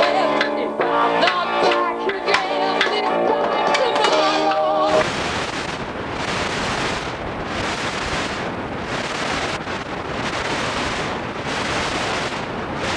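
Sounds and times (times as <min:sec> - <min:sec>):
videotape static hiss: 0:00.0 - 0:12.9.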